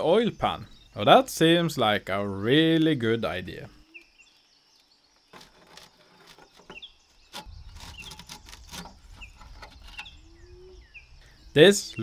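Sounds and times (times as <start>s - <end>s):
small bird chirping: 0.0s - 1.3s, 3.5s - 12.0s.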